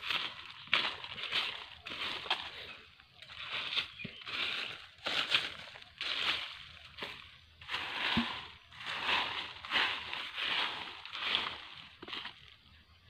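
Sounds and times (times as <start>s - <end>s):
footsteps crunching through dry leaves: 0.0s - 12.8s.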